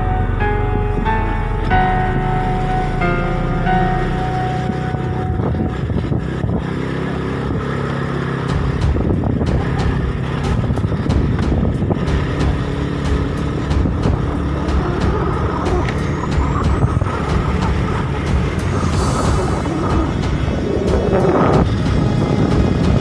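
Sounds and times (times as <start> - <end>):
background music: 0.0 - 23.0
vehicle engine running: 0.0 - 23.0.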